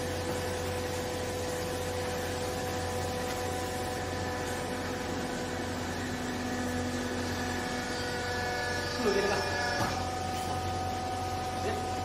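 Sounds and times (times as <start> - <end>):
hydraulic pump motor humming: 0.0 - 12.0
low motor tone: 0.0 - 12.0.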